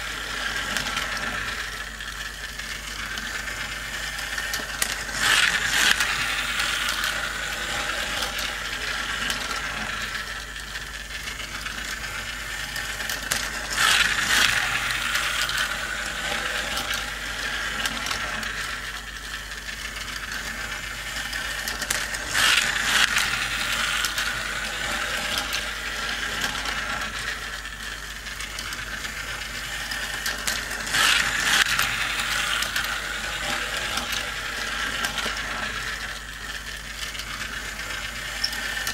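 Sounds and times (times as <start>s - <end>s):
toy cars clattering on track: 0.0s - 38.9s
toy track gears whirring: 0.0s - 38.9s.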